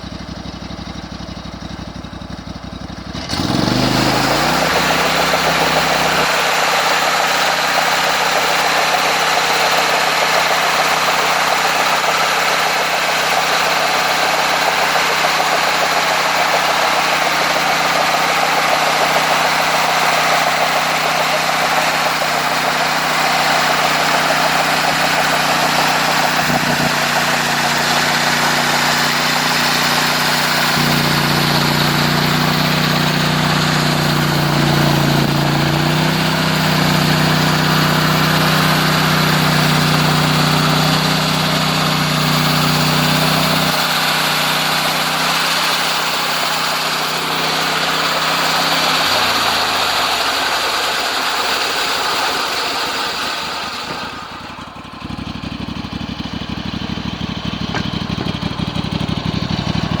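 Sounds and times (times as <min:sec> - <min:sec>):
sawmill engine running: 0:00.0 - 1:00.0
low rough engine rumble: 0:09.4 - 0:43.8, 0:45.8 - 1:00.0.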